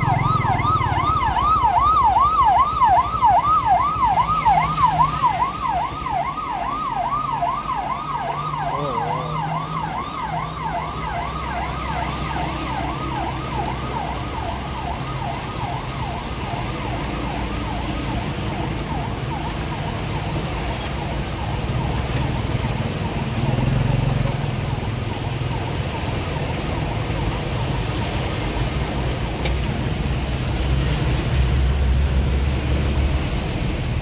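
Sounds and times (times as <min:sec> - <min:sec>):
siren sweeping up and down: 0:00.0 - 0:31.3
floodwater rushing across road: 0:00.0 - 0:34.0
passing motorbikes and cars: 0:00.0 - 0:34.0.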